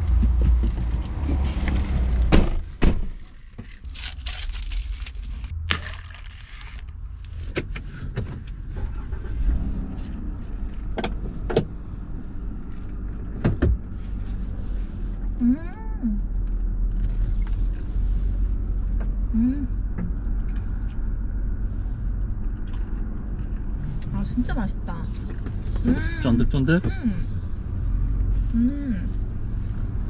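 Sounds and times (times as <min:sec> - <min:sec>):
car low rumble: 0:00.0 - 0:30.0.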